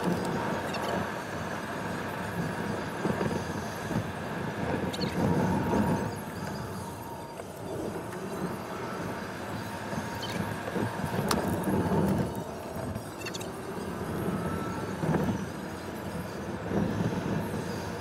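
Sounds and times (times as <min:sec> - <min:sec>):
engine and tyres rumbling: 0:00.0 - 0:18.0.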